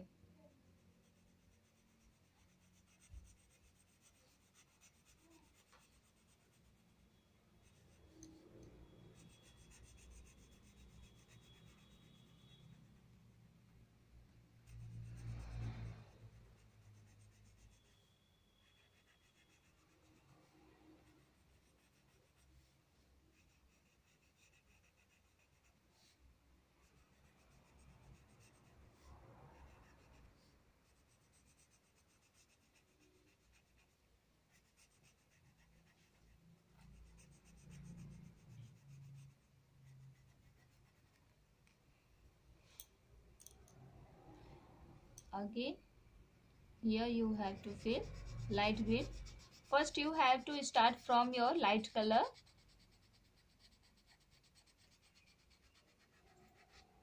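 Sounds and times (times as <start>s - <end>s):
pencil rubbing on paper: 0.7s - 7.0s, 7.6s - 13.1s, 14.6s - 41.4s, 47.0s - 57.0s.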